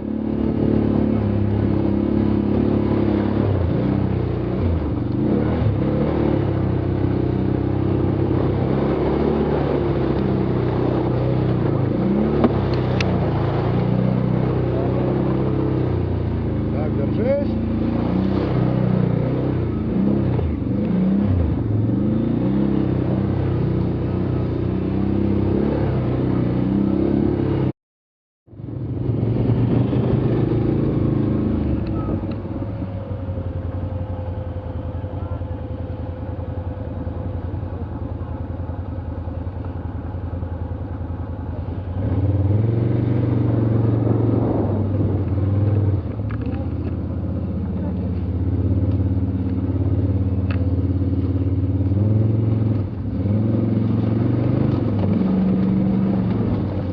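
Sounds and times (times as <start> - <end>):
vehicle engine running: 0.0 - 26.6, 28.5 - 56.9.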